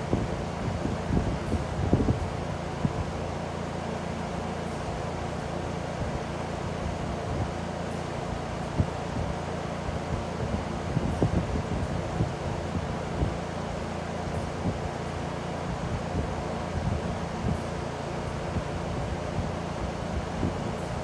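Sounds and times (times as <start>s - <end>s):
electric fan humming: 0.0s - 21.0s.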